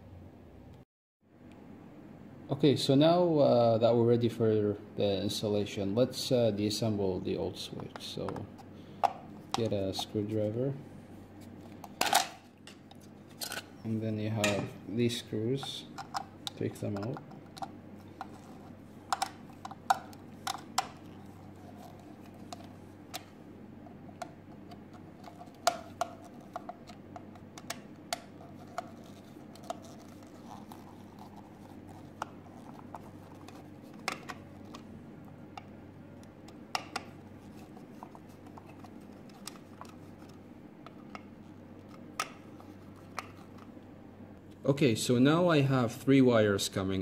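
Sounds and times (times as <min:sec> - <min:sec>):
faint hum: 0:00.0 - 0:47.0.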